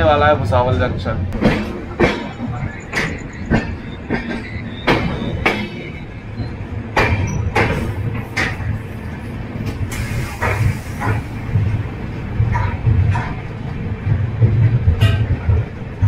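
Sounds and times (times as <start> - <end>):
train running gear rumble: 0.0 - 16.0
wheels clacking over rail joints: 0.0 - 16.0.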